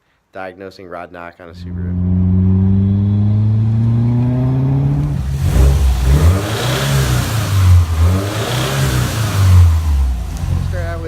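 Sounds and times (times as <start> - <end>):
car engine accelerating: 1.5 - 11.0
rough pulsing exhaust: 1.5 - 11.0.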